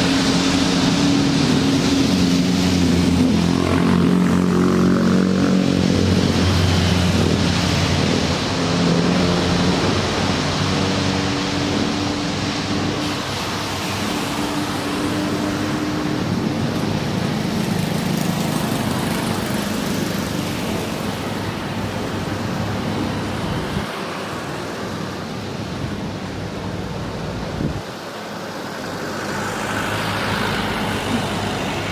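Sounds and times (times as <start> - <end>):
jet engines rushing: 0.0 - 31.9
road traffic: 0.0 - 31.9.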